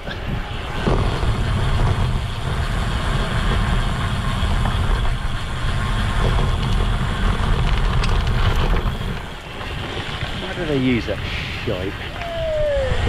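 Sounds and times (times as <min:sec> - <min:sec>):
bike tyres rolling over gravel: 0:00.0 - 0:13.0
wind on microphone: 0:00.0 - 0:13.0.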